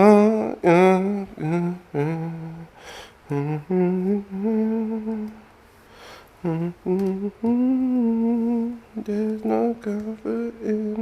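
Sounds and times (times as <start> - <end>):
man humming: 0.0 - 5.5, 6.4 - 11.0.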